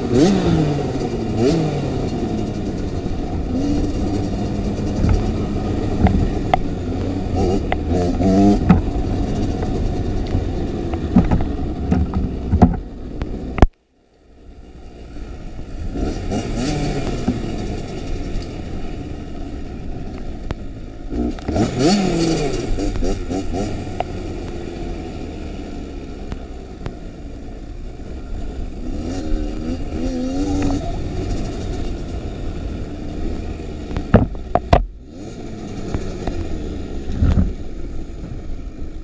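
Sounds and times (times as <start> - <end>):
dirt bike engine revving: 0.0 - 12.6, 14.8 - 20.0, 21.0 - 26.3, 28.0 - 38.3.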